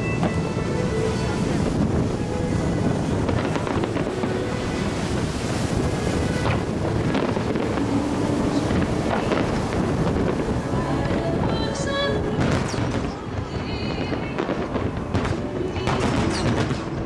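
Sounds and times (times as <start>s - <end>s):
fireworks rumble and crackle: 0.0s - 17.0s
wind noise on microphone: 0.0s - 17.0s.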